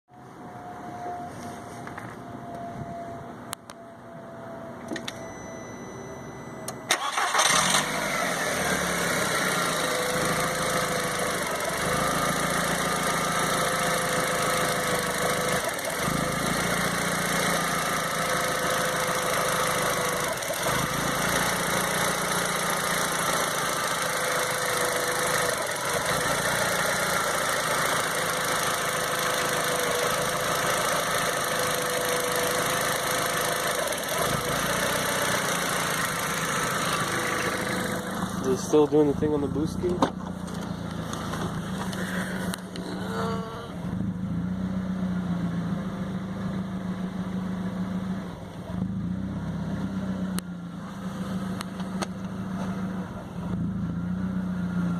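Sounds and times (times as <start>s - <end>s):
car engine cranking and starting: 6.6s - 54.9s
car engine idling: 6.9s - 54.9s.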